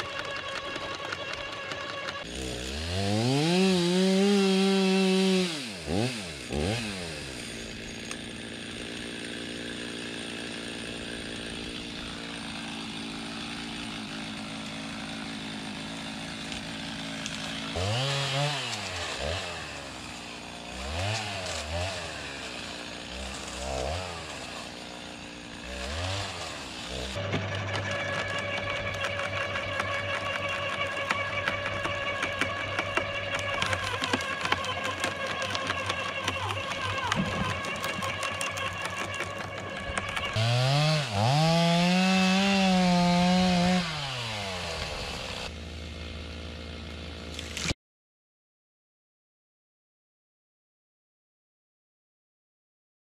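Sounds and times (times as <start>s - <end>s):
chainsaw idling and revving: 0.0s - 47.8s
garden shredder humming: 0.0s - 47.8s.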